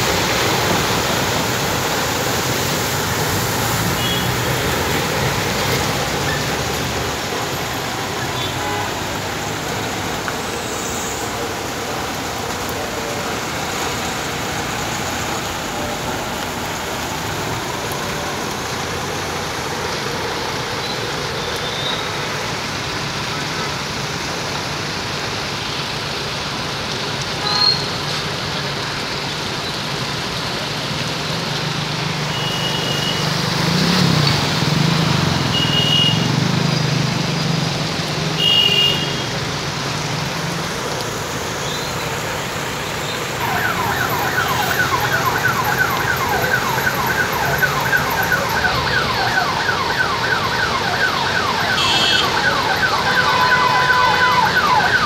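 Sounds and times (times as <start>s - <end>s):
heavy rain on flooded road: 0.0s - 55.0s.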